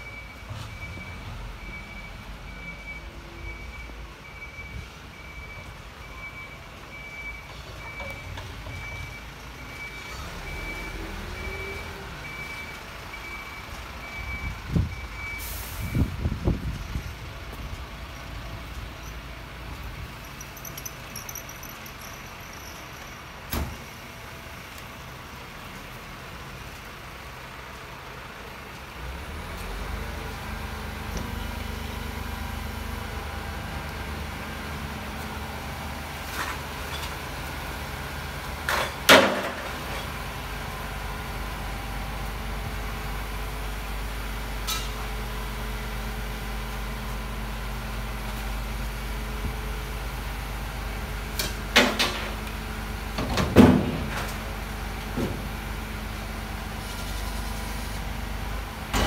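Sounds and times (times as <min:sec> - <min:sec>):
garbage truck diesel engine: 0:00.0 - 0:59.0.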